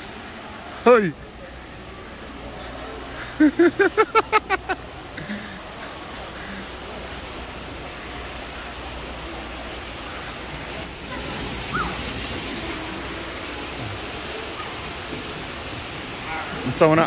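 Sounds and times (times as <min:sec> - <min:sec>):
faint distant voices: 0:00.0 - 0:17.0
steady rushing hall noise: 0:00.0 - 0:17.0.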